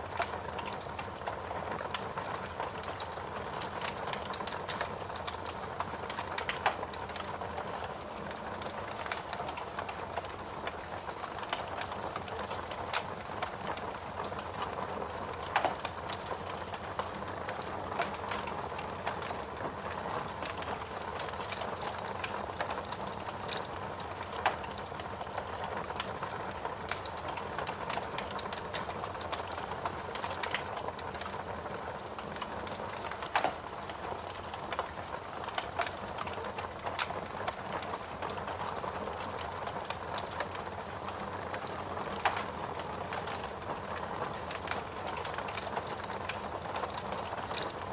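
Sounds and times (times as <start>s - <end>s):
log fire crackling: 0.0s - 47.9s
fire pops: 0.2s - 24.8s, 32.1s - 47.8s.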